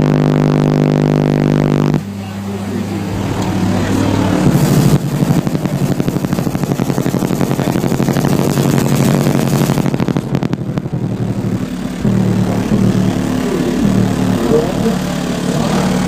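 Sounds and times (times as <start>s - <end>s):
loud pulsing subwoofer bass: 0.0s - 16.0s.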